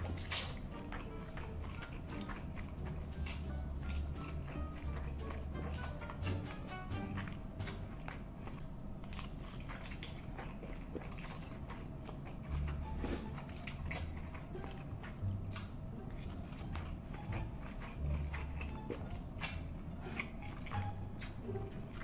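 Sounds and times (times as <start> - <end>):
slurping and chewing noodles: 0.0 - 22.0.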